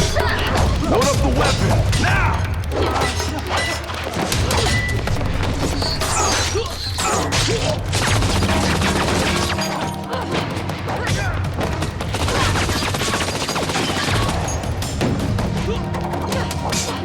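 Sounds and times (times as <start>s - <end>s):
dramatic music score: 0.0s - 17.0s
punches and blows: 0.0s - 17.0s.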